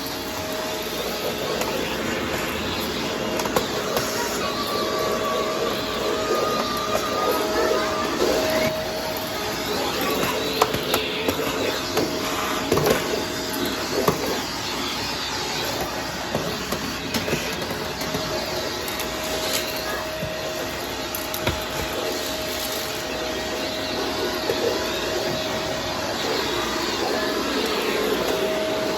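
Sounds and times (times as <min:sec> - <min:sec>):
vacuum cleaner motor whine: 0:00.0 - 0:28.9.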